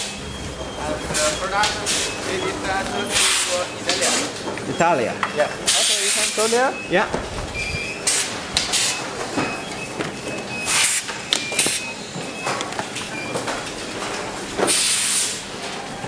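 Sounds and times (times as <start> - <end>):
high beeps: 0.0 - 14.0.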